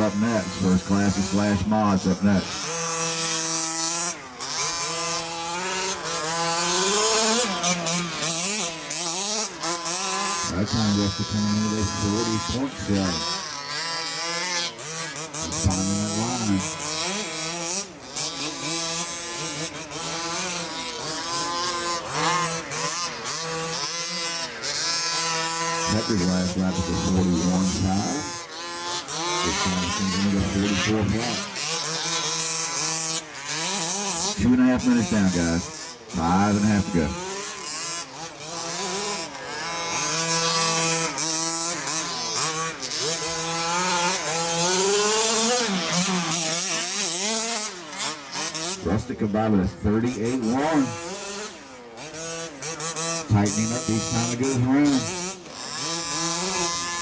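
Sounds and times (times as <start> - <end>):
small two-stroke engines revving: 0.0 - 57.0.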